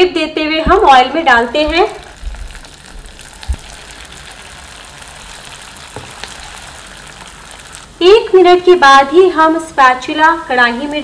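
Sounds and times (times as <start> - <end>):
deep-frying sizzle with crackles: 1.4 - 11.0.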